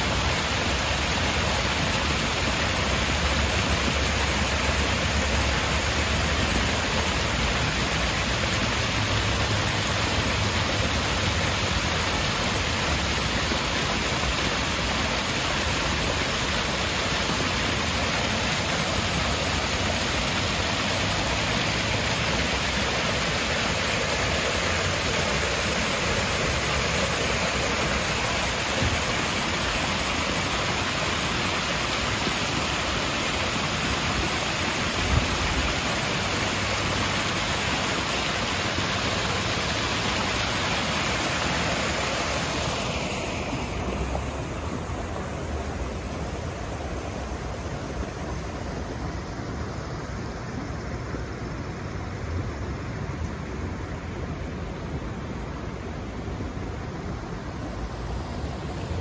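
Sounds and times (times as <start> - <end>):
waterfall splashing over rocks: 0.0 - 59.0.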